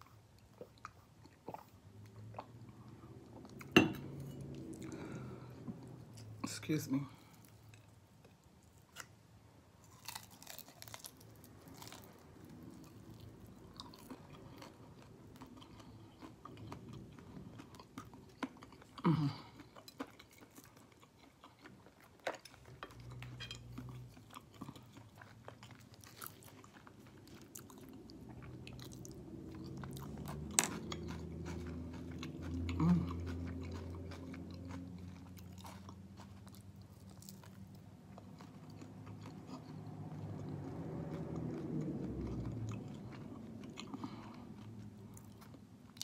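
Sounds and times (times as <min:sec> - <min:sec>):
chewing fried chicken: 0:00.0 - 0:46.0.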